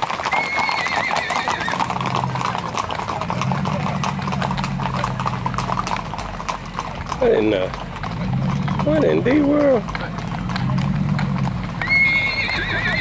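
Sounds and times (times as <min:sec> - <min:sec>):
hooves clip-clopping on gravel: 0:00.0 - 0:13.0
horse whinnying: 0:00.0 - 0:13.0.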